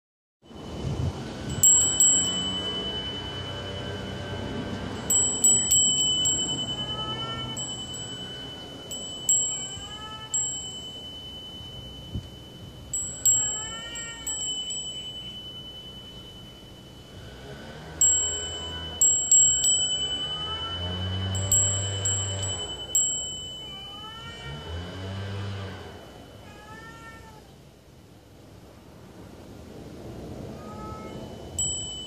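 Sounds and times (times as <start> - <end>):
wind chime tinging: 0.5 - 27.4, 30.7 - 32.0.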